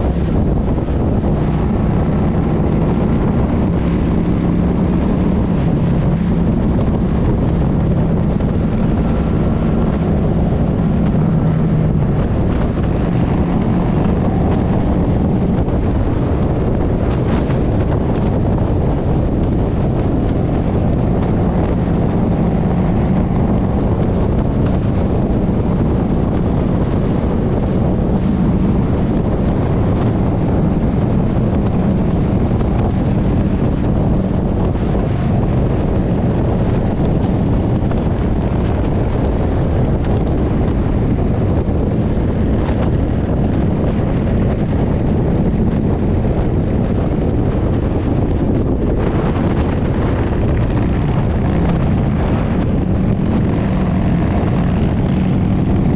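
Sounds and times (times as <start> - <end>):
motorcycle engine running: 0.0 - 55.9
wind rush on microphone: 0.0 - 55.9.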